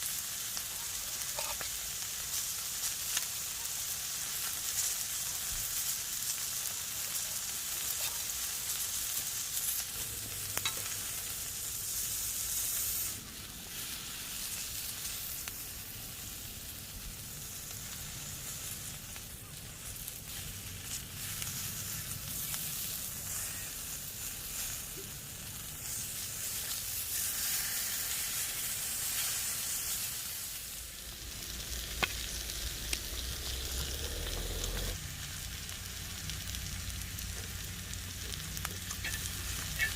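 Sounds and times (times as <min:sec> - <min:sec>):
beef sizzling on a griddle: 0:00.0 - 0:39.9.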